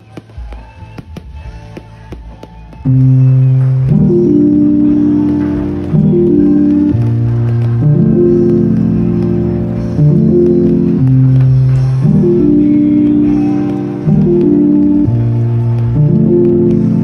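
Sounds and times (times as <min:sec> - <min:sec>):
sustained keyboard chords: 0:01.0 - 0:17.0.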